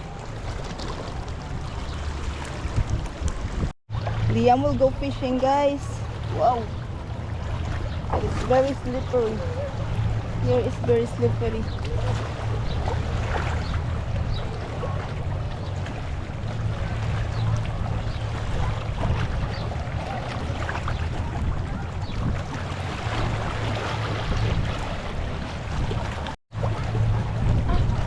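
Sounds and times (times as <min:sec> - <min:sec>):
low steady rumble: 0:00.0 - 0:28.0
wind on microphone: 0:00.0 - 0:28.0.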